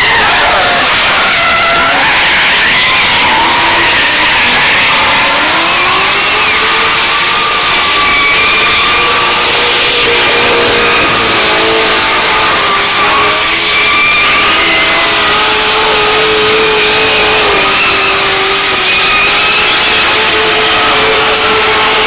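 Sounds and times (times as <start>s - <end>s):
car engines at high revs: 0.0s - 22.0s.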